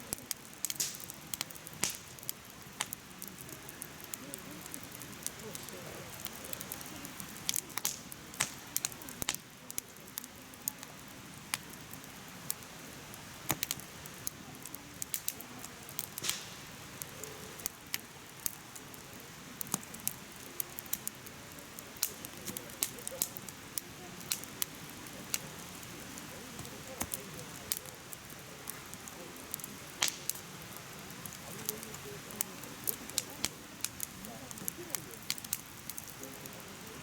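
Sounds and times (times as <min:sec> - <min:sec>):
firewood crackling and popping: 0:00.0 - 0:37.0
soft hiss: 0:00.0 - 0:37.0.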